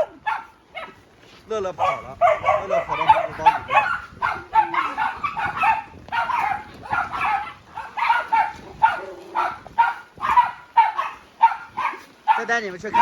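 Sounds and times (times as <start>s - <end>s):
dogs barking: 0.0s - 1.1s, 1.7s - 13.0s.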